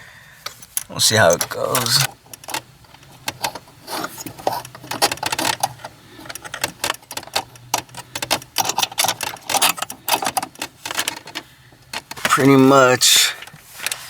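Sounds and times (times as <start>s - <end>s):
metal tools clicking and rattling: 0.5s - 14.0s.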